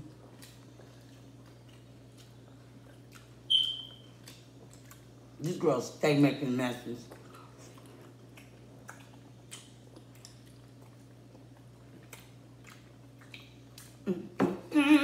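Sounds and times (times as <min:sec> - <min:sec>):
people chewing: 0:00.0 - 0:03.5, 0:04.1 - 0:05.4, 0:07.0 - 0:15.0
steady low hum: 0:00.0 - 0:15.0.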